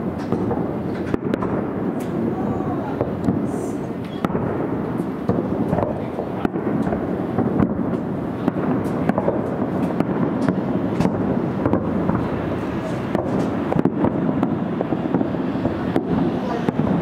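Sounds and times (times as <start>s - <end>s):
continuous low rumble: 0.0s - 17.0s
fireworks booms and cracks: 0.0s - 17.0s.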